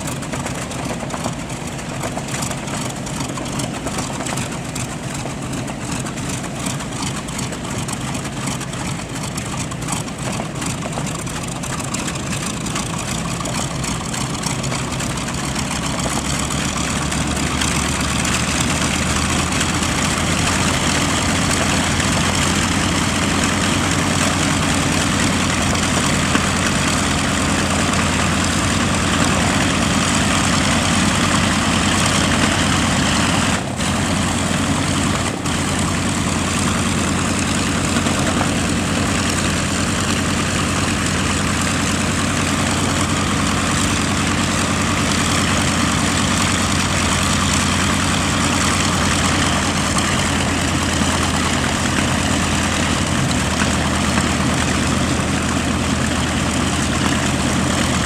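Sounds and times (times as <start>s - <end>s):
radial aircraft engines idling: 0.0s - 58.0s.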